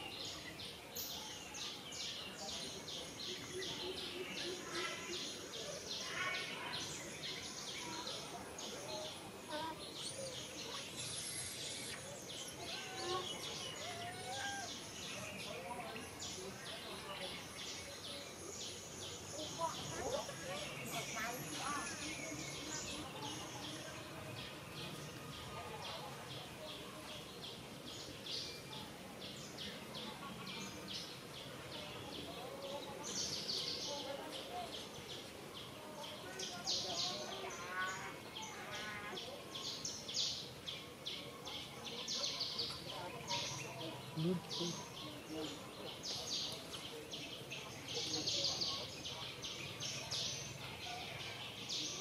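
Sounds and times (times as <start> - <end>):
birds chirping: 0.0 - 52.0
steady background hiss: 0.0 - 52.0.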